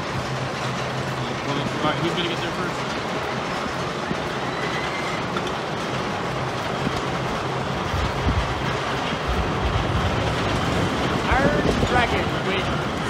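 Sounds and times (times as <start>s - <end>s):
roller coaster chains clattering: 0.0s - 13.0s
wind buffeting microphone: 0.0s - 13.0s.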